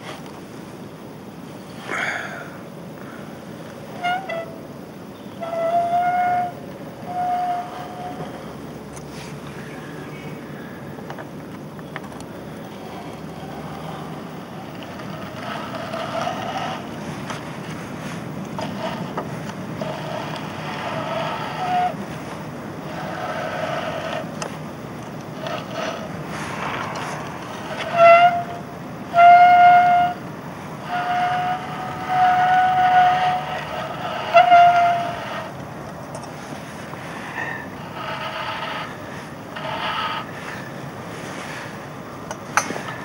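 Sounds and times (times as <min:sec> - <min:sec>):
sea noise: 0:00.0 - 0:11.4, 0:12.3 - 0:43.0
wind: 0:00.0 - 0:43.0
held horn-like tones: 0:03.8 - 0:10.8, 0:12.6 - 0:41.8.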